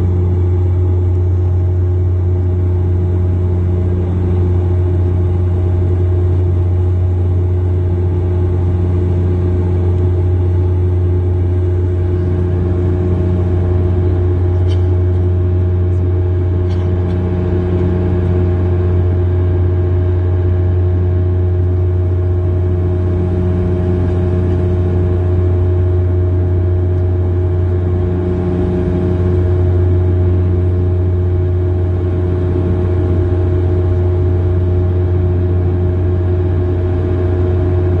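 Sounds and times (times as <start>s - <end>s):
airliner cabin engine rumble: 0.0s - 38.0s.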